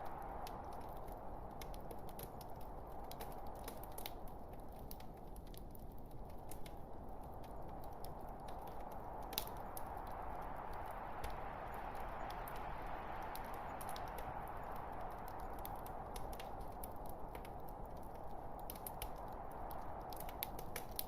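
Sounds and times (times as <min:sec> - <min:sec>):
fire crackling and popping: 0:00.0 - 0:21.0
log fire hissing: 0:00.0 - 0:21.0.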